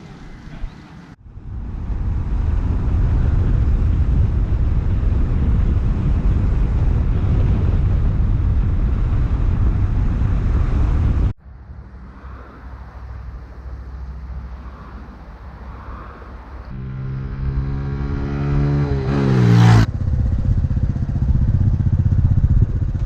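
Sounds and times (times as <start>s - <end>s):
wind buffeting microphone: 0.3s - 12.0s, 13.1s - 23.0s.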